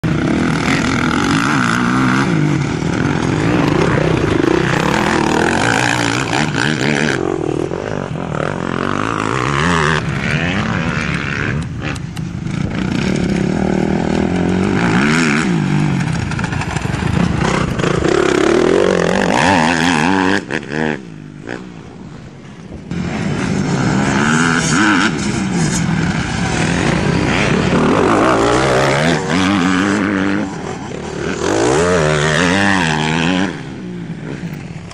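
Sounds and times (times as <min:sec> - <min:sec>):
motocross bike engines revving: 0:00.0 - 0:34.9.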